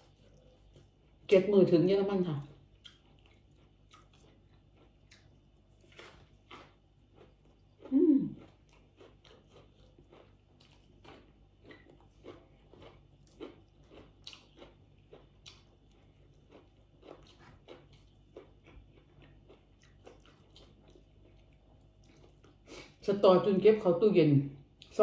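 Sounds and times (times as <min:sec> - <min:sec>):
person chewing food: 0:00.0 - 0:01.3, 0:02.4 - 0:23.0.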